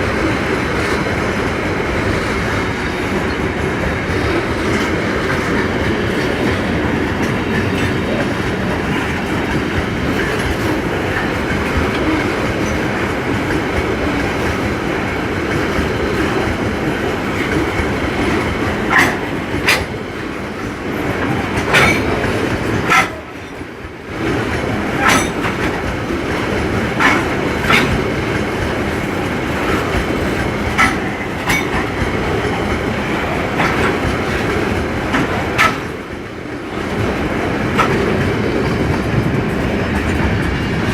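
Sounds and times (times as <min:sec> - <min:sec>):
train rolling past: 0:00.0 - 0:40.9
wheels clattering over rail joints: 0:00.0 - 0:40.9.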